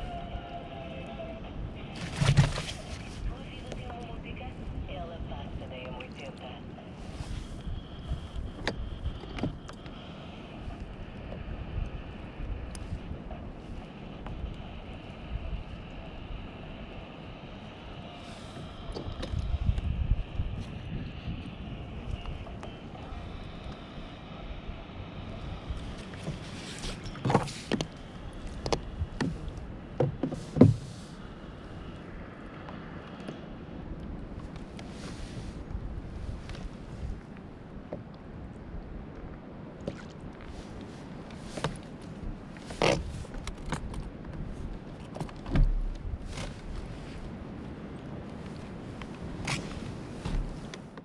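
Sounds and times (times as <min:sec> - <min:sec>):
low wind: 0:00.0 - 0:51.0
water washing around kayak: 0:00.0 - 0:51.0.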